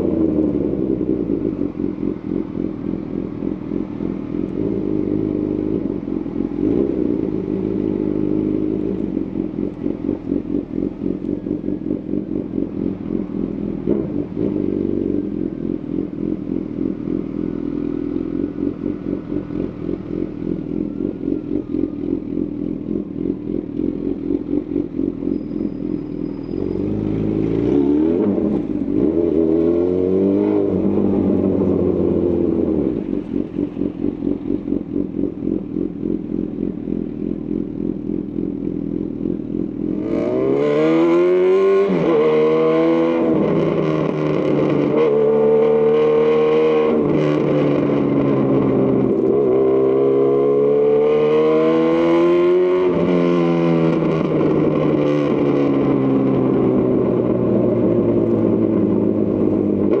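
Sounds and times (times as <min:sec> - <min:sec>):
motorcycle engine accelerating: 0:00.0 - 1:00.0.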